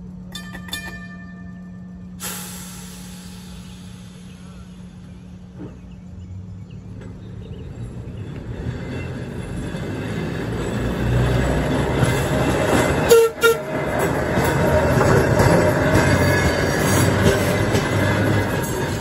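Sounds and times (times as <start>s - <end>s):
streetcar rolling on rails: 0.0s - 19.0s
streetcar warning toots: 0.1s - 5.8s, 7.4s - 19.0s.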